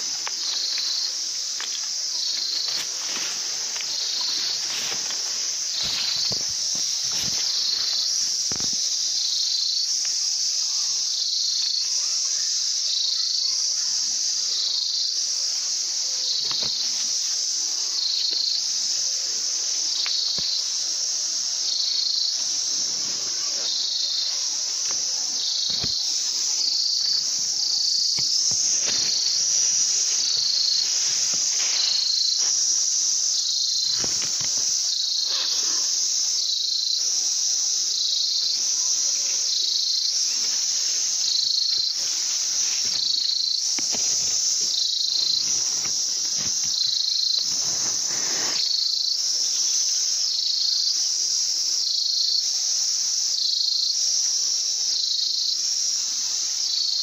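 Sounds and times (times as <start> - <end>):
pulsing insect chorus: 0.0 - 57.0.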